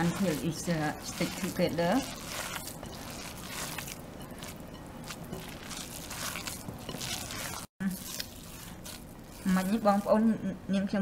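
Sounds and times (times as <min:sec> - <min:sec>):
hands squeezing damp tapioca pearls: 0:00.0 - 0:10.2.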